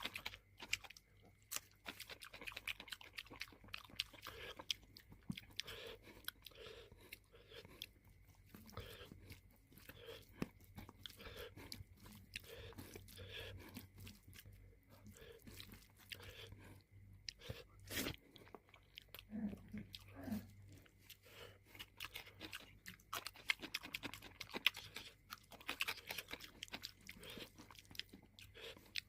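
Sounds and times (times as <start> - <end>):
person chewing crunchy food: 0.0 - 29.0.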